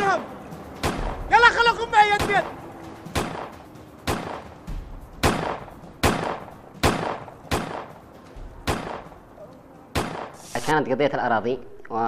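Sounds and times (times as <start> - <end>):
sharp loud bangs: 0.7 - 10.6.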